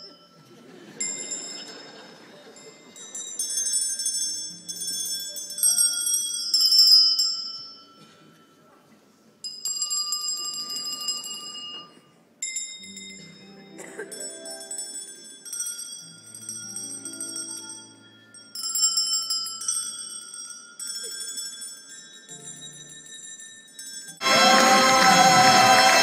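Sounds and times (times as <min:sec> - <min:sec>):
bell-like notes ringing: 0:00.0 - 0:08.8, 0:09.4 - 0:26.0.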